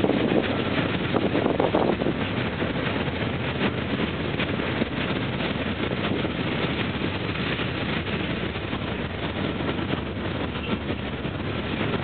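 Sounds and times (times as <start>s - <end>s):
steel wheels rumbling on rail: 0.0s - 12.0s.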